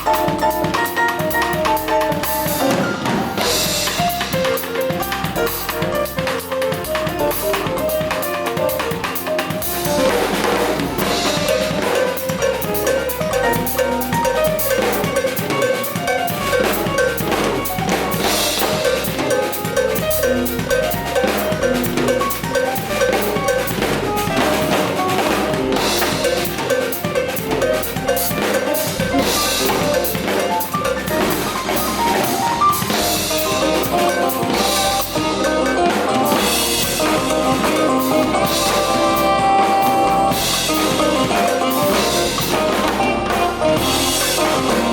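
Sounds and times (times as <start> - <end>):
band music: 0.0 - 44.9.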